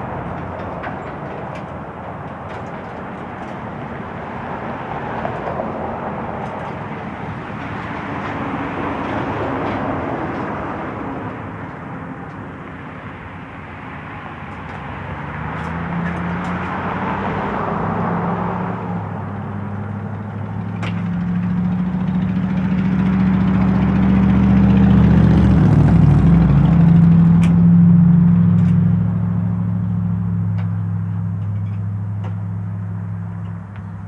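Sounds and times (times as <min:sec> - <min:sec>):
droning engine hum: 0:00.0 - 0:34.0
road traffic passing: 0:00.0 - 0:34.0.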